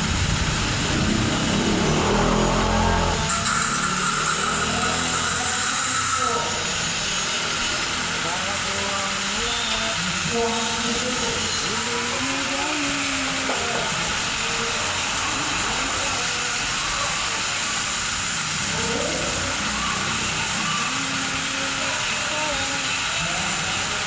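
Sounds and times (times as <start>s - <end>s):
faint voices: 0.0s - 24.0s
high-pressure water spray hissing: 0.0s - 24.0s.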